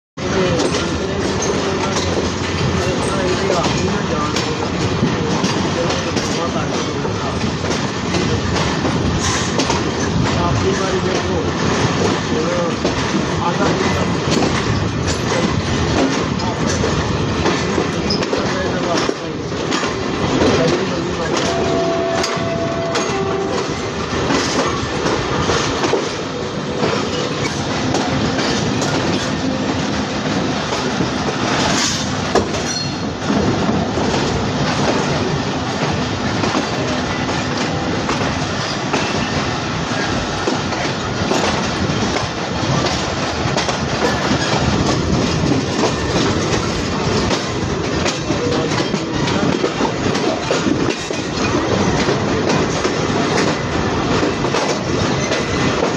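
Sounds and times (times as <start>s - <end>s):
train wheels clattering: 0.2s - 55.9s.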